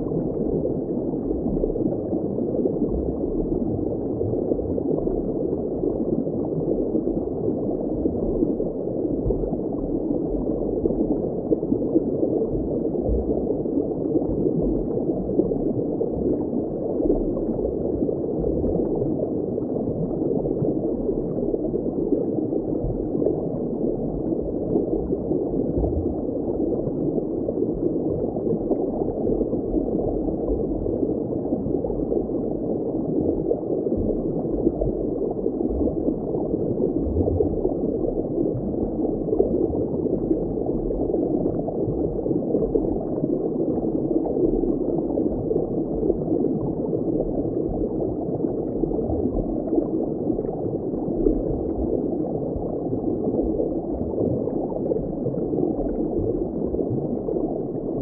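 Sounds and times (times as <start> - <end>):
muffled bubbling water: 0.0 - 58.0.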